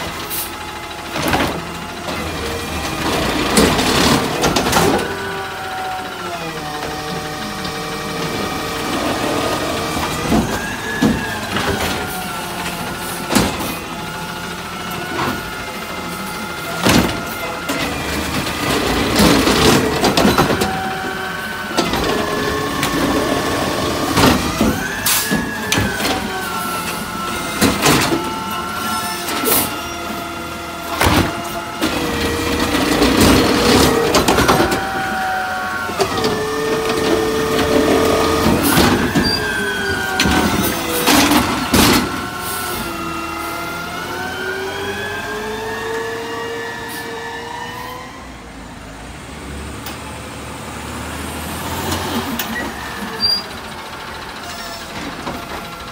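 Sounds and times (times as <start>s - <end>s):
knocks and bangs of carts: 0.0s - 45.2s, 51.6s - 55.9s
truck engine and hydraulic whine: 0.0s - 55.9s.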